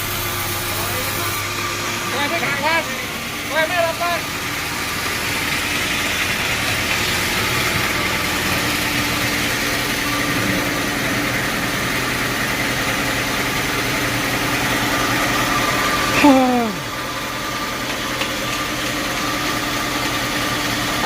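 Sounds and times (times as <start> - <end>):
sawmill machinery drone: 0.0 - 21.0.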